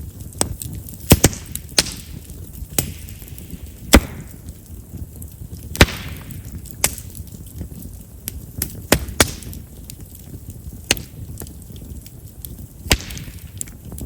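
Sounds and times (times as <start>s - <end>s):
firewood crackling and popping: 0.0s - 14.0s
low rustle of flames: 0.0s - 14.0s.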